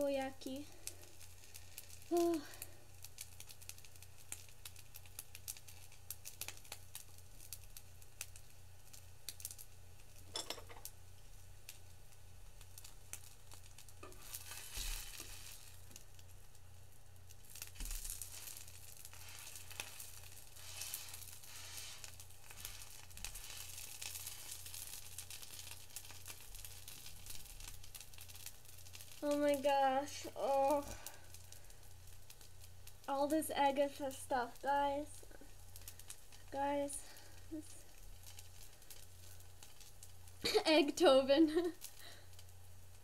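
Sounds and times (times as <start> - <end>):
food sizzling on skillet: 0.0 - 43.0
low electrical hum: 0.0 - 43.0.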